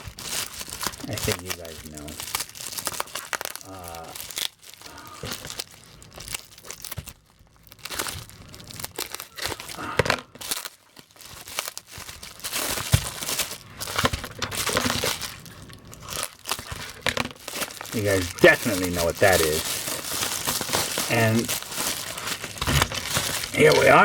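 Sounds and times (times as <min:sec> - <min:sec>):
packing material crinkling and tearing: 0:00.0 - 0:24.0.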